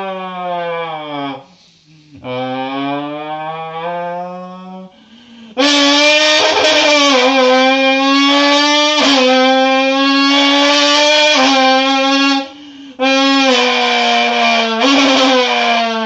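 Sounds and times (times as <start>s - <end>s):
person imitating a car engine: 0.0s - 16.0s.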